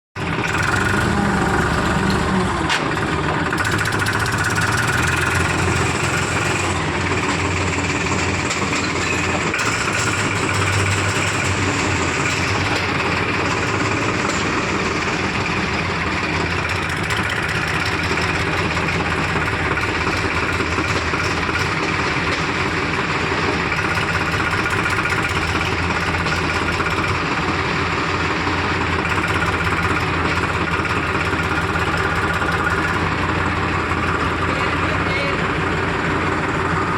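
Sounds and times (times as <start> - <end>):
diesel engines running: 0.2 - 36.9.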